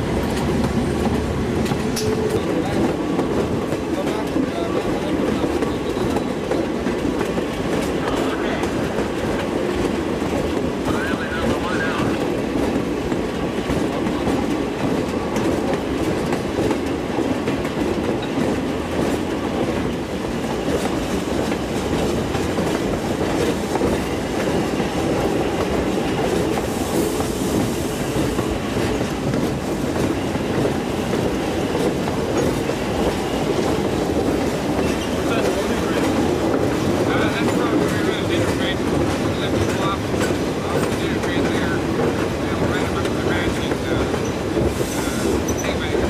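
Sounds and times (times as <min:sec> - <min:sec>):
steel wheels rattling on rails: 0:00.0 - 0:46.0.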